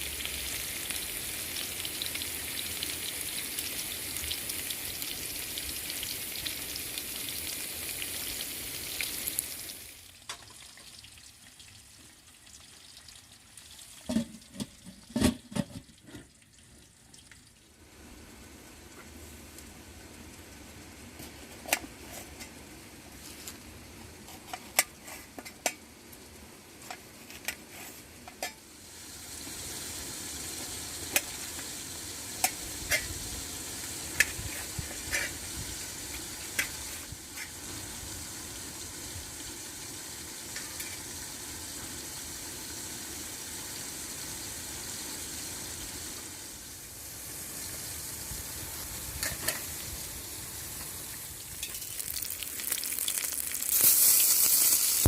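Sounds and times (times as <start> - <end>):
food sizzling in pan: 0.0 - 16.0, 24.3 - 55.0.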